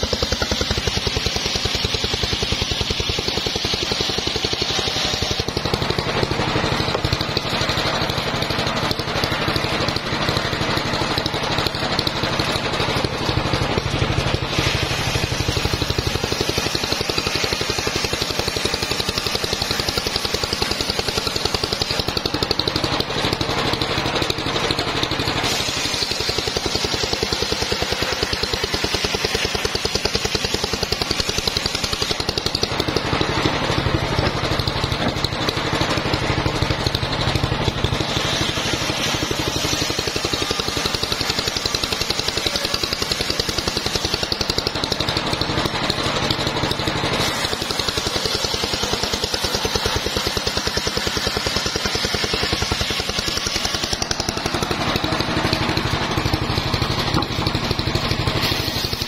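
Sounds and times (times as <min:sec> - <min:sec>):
circular saw cutting wood: 0:00.0 - 0:59.0
engine running: 0:00.0 - 0:59.0.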